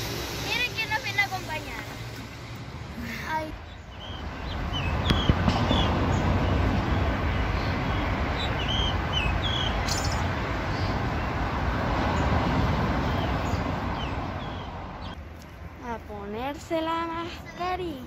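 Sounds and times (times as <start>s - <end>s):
low rumble of city traffic: 0.0s - 18.0s
birds chirping: 0.5s - 18.0s.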